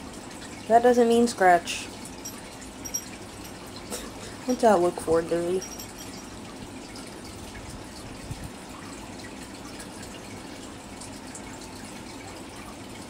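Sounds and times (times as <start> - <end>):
aquarium filter water trickling: 0.0 - 13.0.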